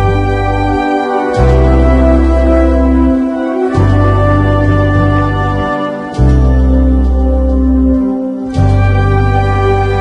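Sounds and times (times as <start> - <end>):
slow sustained keyboard chords: 0.0 - 10.0.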